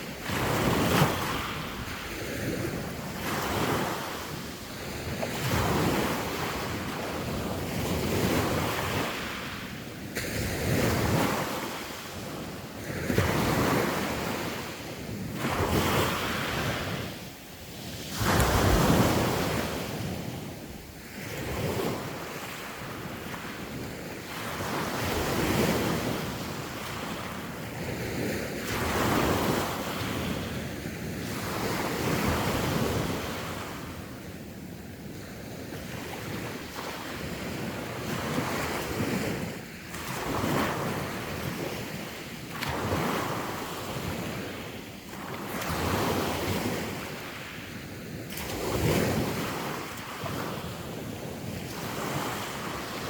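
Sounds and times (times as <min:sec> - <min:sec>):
sea waves breaking on shore: 0:00.0 - 0:53.0
wind buffeting the microphone: 0:00.0 - 0:53.0.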